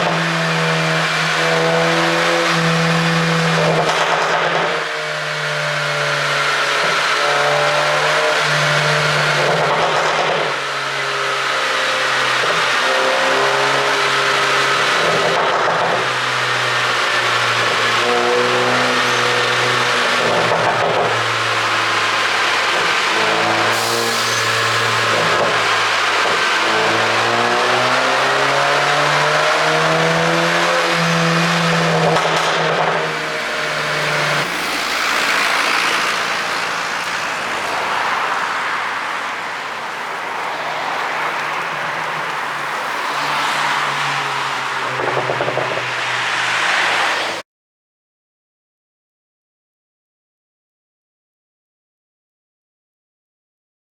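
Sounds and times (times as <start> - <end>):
car engine droning: 0.0 - 47.4.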